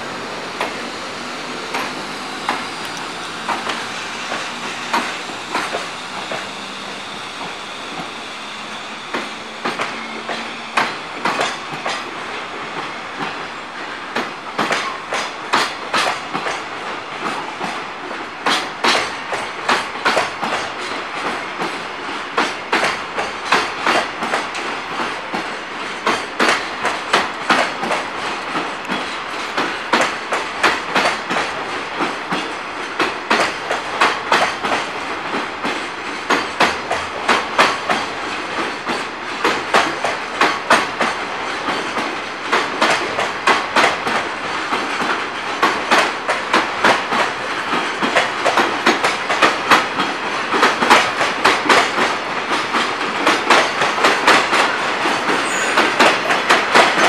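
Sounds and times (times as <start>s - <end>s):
train running rumble: 0.0s - 57.0s
train wheels clicking over rail joints: 0.1s - 57.0s.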